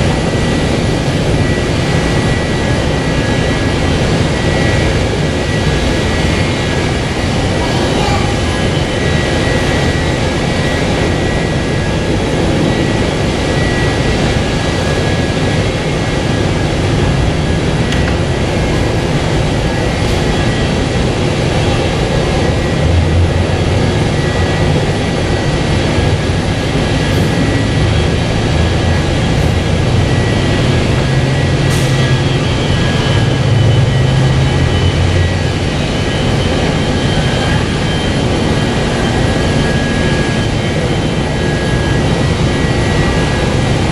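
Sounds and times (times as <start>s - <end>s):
jet engines idling: 0.0s - 43.9s.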